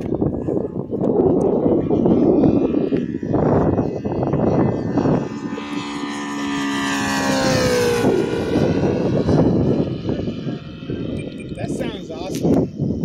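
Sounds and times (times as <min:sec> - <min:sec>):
model plane engine passing: 0:00.0 - 0:13.0.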